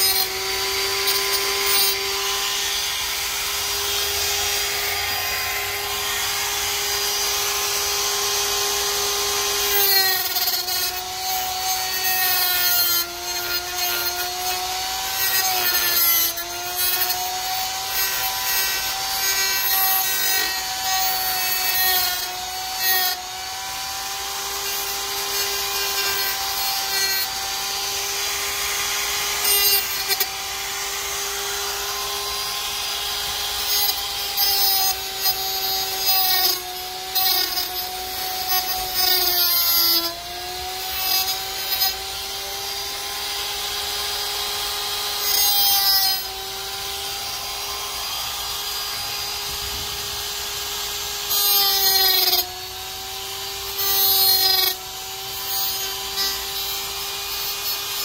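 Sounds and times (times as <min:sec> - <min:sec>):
die grinder whining: 0:00.0 - 0:58.0
rough metal grinding: 0:00.0 - 0:58.0.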